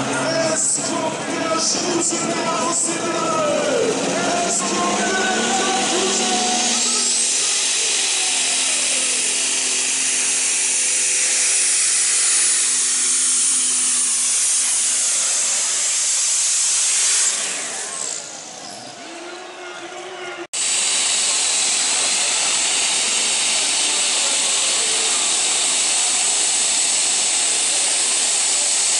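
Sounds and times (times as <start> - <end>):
tractor engine at full power: 0.0 - 19.0, 20.4 - 28.9
turbocharger whine: 0.0 - 19.0, 20.5 - 28.9.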